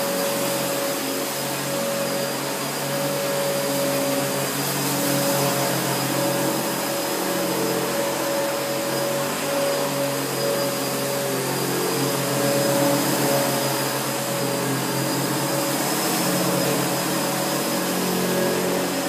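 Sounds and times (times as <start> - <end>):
vacuum cleaners running on carpet: 0.0 - 19.0.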